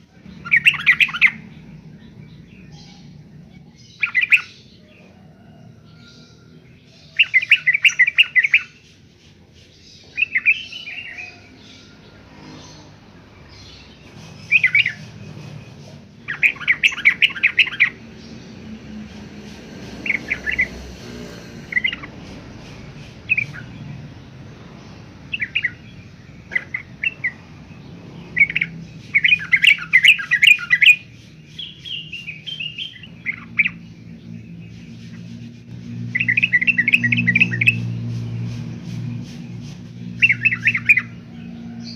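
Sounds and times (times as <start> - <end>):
bulbul singing: 0.0 - 41.9.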